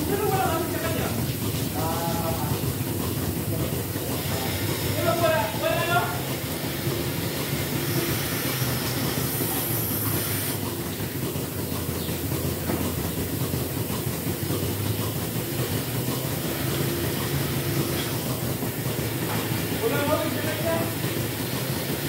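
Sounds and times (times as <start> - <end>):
milking machinery humming: 0.0 - 22.0.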